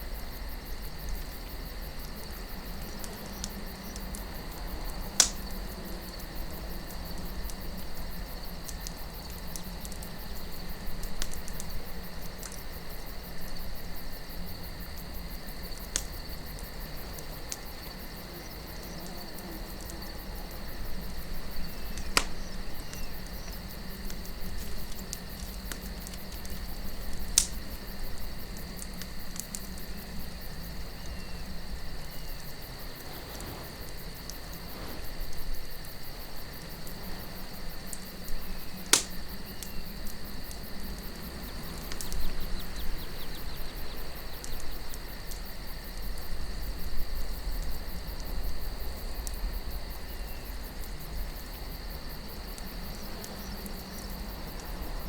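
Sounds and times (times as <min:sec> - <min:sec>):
campfire crackling: 0:00.0 - 0:55.0
low wind rumble: 0:00.0 - 0:55.0.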